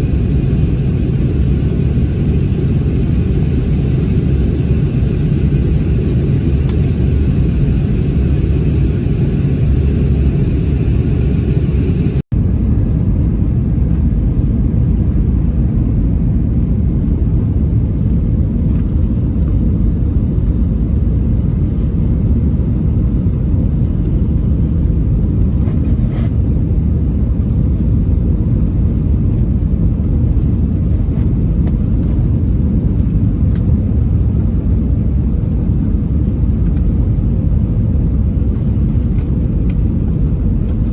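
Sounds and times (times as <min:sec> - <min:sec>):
airliner cabin noise: 0:00.0 - 0:40.9.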